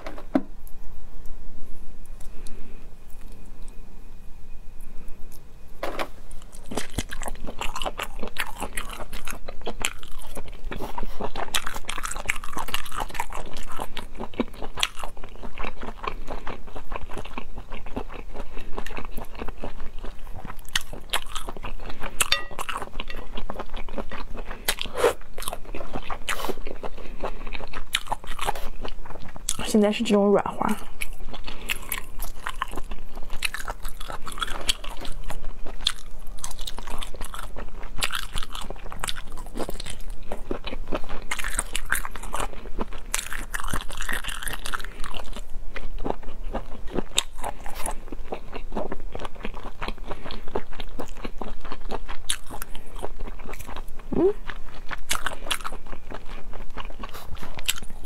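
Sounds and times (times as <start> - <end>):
person chewing wetly: 6.4 - 29.7, 30.7 - 58.0.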